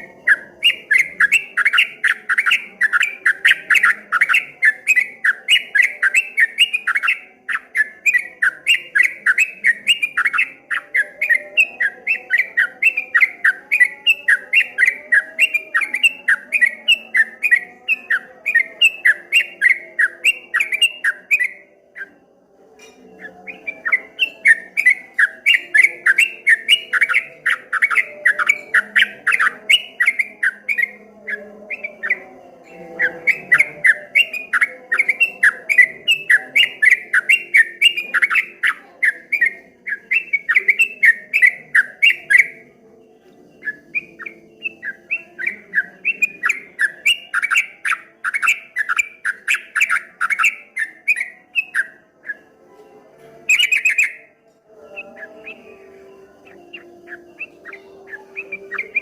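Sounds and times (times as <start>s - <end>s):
bird singing rapid chirps: 0.0s - 52.6s, 53.3s - 59.0s.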